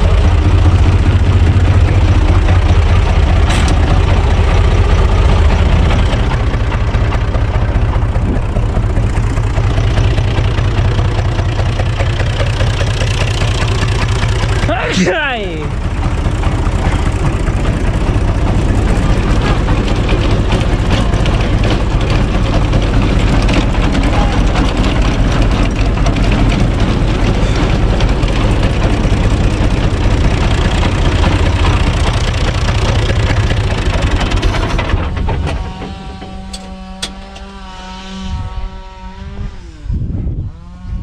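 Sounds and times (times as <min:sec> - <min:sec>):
tractor diesel engine running: 0:00.0 - 0:39.5.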